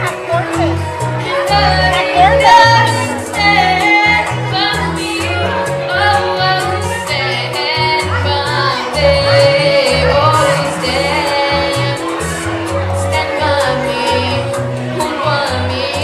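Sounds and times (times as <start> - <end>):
bachata backing track: 0.0 - 16.0
woman singing into microphone: 1.2 - 16.0.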